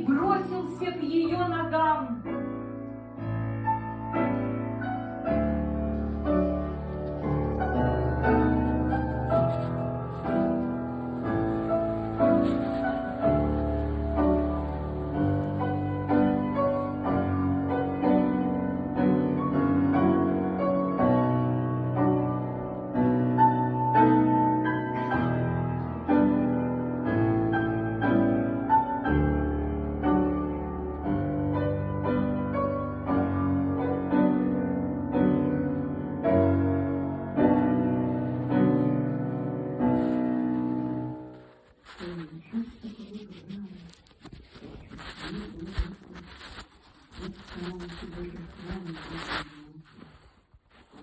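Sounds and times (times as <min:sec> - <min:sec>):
piano piece: 0:00.0 - 0:49.5.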